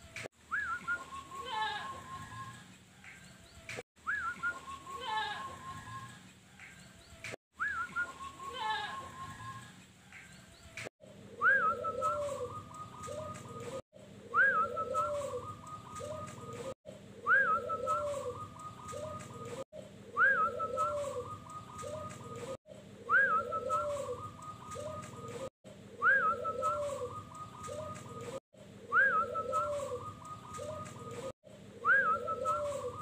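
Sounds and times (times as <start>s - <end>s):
dove cooing song: 0.6s - 2.6s, 4.1s - 6.9s, 7.6s - 9.7s, 11.3s - 33.0s.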